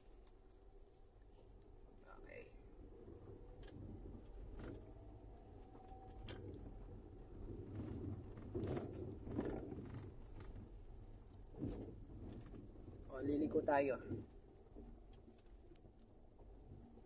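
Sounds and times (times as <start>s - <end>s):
engine and tyre rumble: 1.4s - 17.0s.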